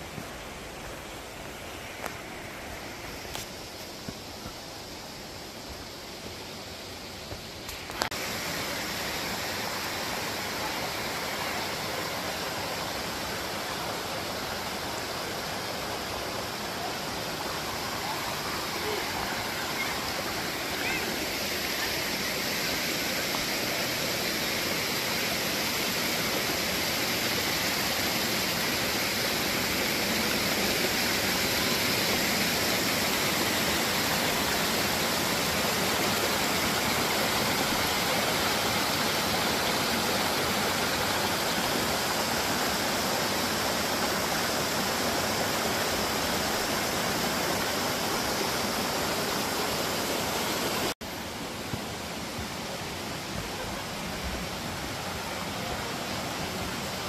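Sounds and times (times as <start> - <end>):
creek rushing over rocks: 0.0 - 57.0.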